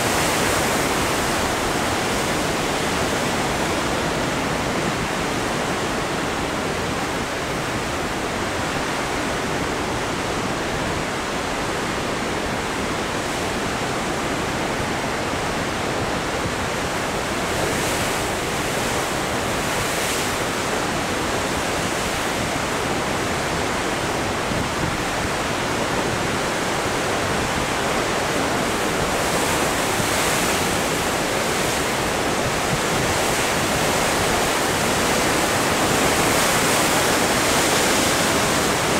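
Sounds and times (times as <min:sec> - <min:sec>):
ocean surf breaking over rocks: 0:00.0 - 0:38.9.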